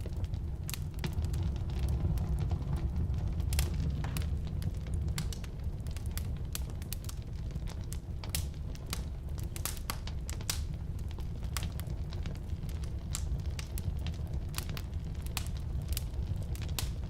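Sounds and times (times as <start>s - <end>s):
firewood crackling and popping: 0.0s - 17.0s
low rumble of fire: 0.0s - 17.0s.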